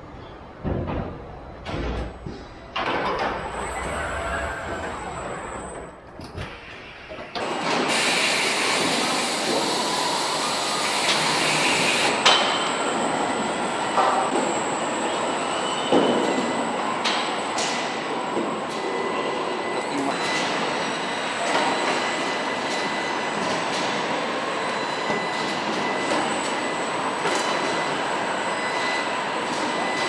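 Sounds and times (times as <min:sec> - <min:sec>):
machinery clatter and hum: 0:00.0 - 0:30.0.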